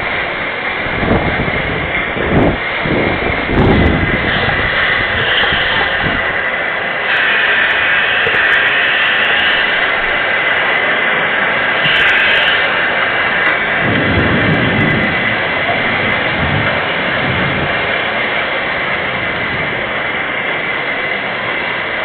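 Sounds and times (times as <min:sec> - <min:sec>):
wind buffeting microphone: 0:00.0 - 0:22.0
wind-driven rain: 0:00.0 - 0:22.0.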